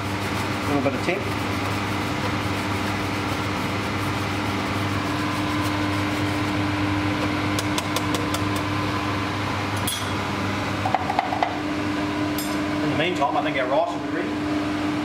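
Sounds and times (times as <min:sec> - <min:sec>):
extraction fan hum: 0:00.0 - 0:15.0.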